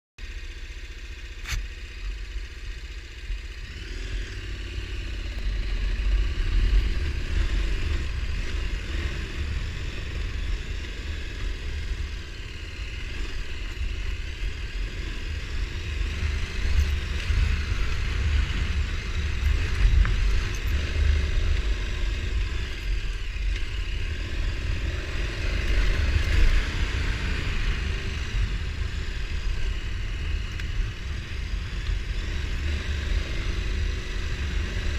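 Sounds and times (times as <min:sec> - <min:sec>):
atv engine running: 0:00.2 - 0:34.9.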